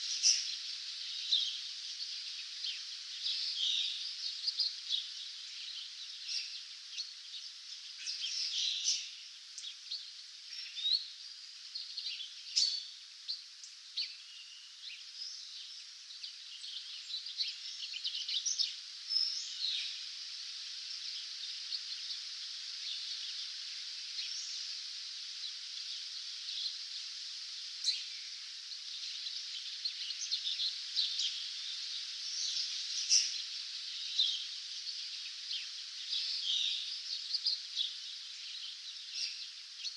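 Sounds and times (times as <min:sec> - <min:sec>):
songbirds chirping and trilling: 0:00.0 - 0:39.9
steady high-pitched hiss: 0:00.0 - 0:39.9.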